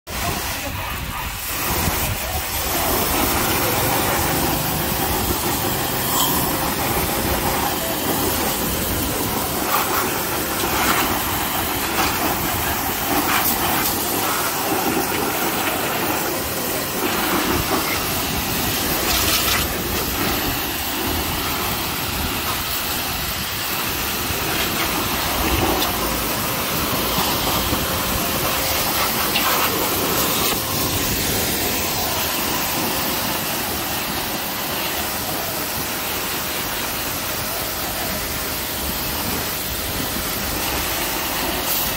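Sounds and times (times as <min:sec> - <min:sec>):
pressure washer jet hissing: 0:00.1 - 0:41.9.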